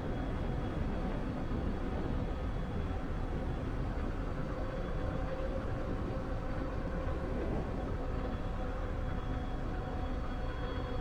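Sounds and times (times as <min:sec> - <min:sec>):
faint steady whine: 0:00.0 - 0:11.0
wind rush on microphone: 0:00.0 - 0:11.0.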